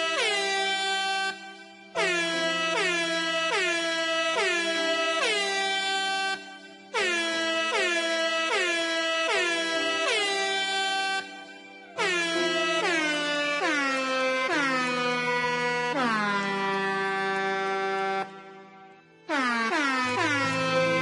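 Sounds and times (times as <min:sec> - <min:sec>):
air horn blasts: 0:00.0 - 0:21.0
music: 0:00.0 - 0:21.0.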